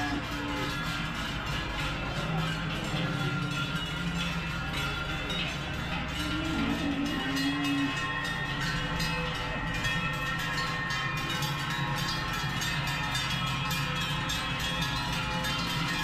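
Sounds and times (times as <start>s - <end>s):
cowbells clanging: 0.0s - 16.0s
low held tone: 0.0s - 16.0s.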